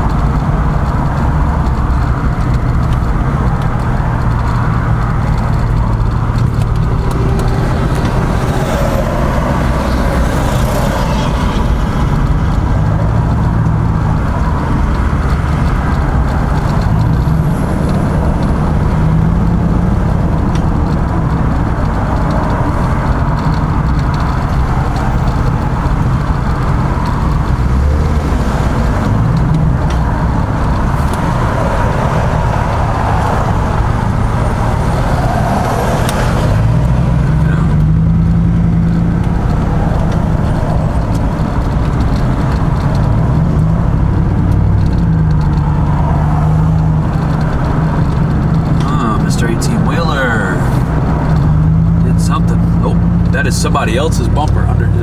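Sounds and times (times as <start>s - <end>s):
engine and road noise in cabin: 0.0s - 55.0s.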